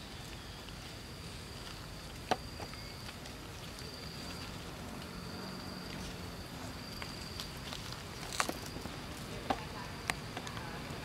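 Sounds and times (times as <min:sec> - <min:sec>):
high-pitched insect drone: 0:00.0 - 0:08.9.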